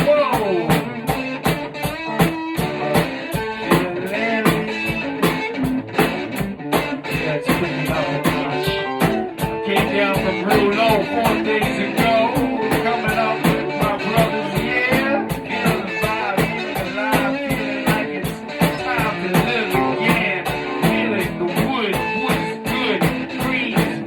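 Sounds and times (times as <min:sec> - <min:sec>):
blues-rock guitar: 0:00.0 - 0:24.0
steady drum beat: 0:00.0 - 0:24.0.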